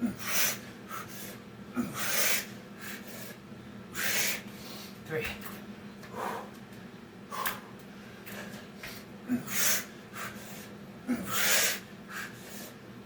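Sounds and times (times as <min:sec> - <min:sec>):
man breathing hard: 0:00.0 - 0:05.0, 0:06.0 - 0:06.7, 0:07.3 - 0:12.8.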